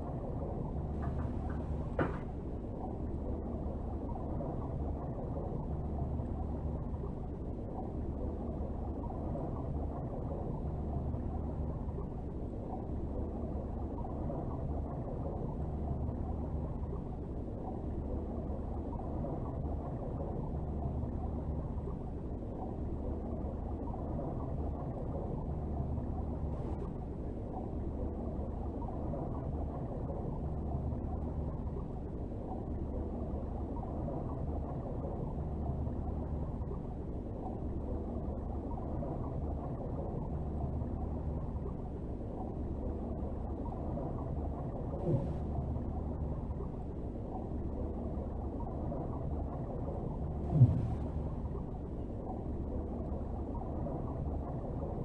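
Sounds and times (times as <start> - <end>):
deep muffled underwater rumble: 0.0 - 55.0.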